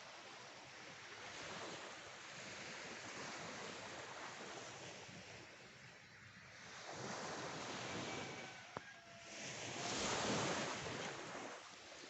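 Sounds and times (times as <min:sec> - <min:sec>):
sea waves washing on beach: 0:00.0 - 0:12.0.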